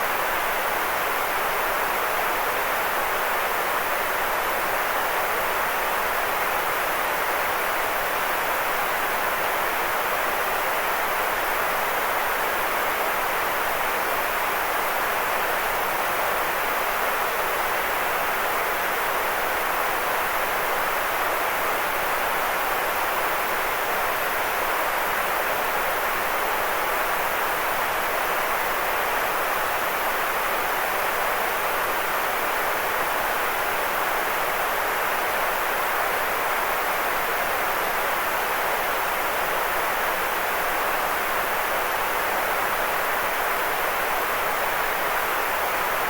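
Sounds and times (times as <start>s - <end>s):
steady white noise hiss: 0.0s - 46.0s.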